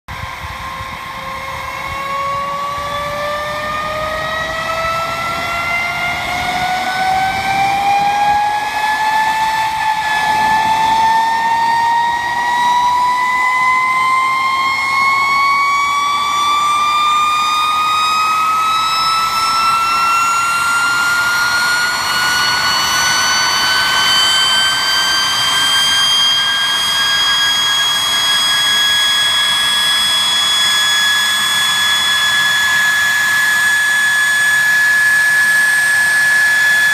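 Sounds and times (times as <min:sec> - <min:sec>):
jet engine whine rising: 0:00.1 - 0:36.9.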